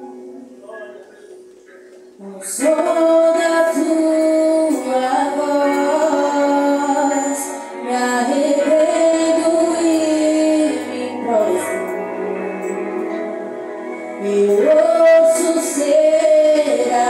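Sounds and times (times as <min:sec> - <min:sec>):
instrumental accompaniment: 0:00.0 - 0:17.0
woman singing worship song: 0:02.2 - 0:17.0.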